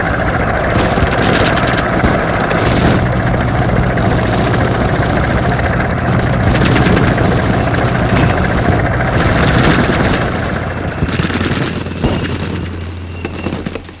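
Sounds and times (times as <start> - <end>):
heavy vehicle engines rumbling: 0.0 - 14.0
small-arms and machine-gun fire: 0.0 - 14.0.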